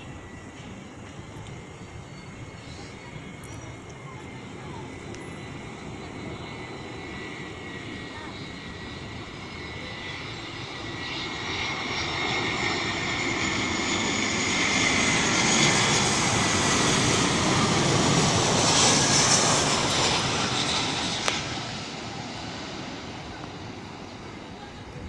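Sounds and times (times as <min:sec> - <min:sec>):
jet engine whine passing by: 0:00.0 - 0:25.0.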